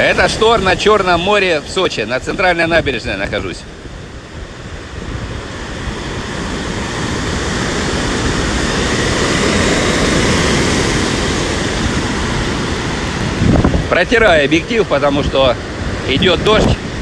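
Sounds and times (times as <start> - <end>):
storm surf: 0.0 - 17.0
wind buffeting microphone: 0.0 - 17.0.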